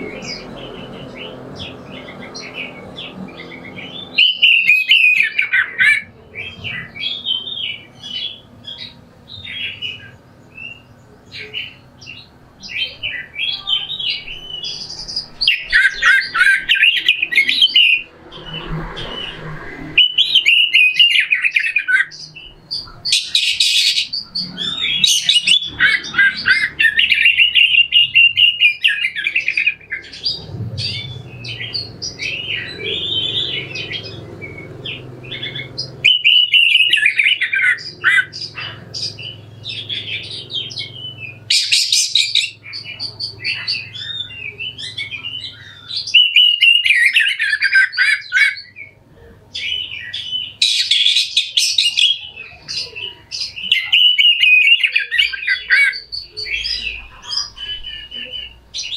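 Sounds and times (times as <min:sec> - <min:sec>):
bird singing harsh varied song: 0:00.0 - 0:58.9.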